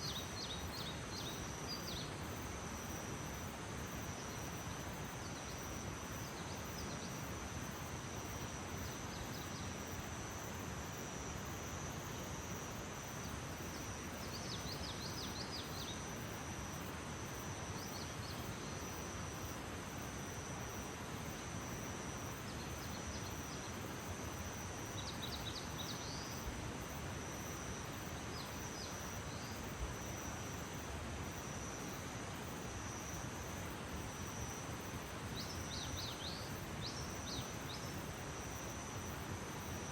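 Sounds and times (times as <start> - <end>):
background hiss: 0.0 - 39.9
high insect trill: 0.0 - 39.9.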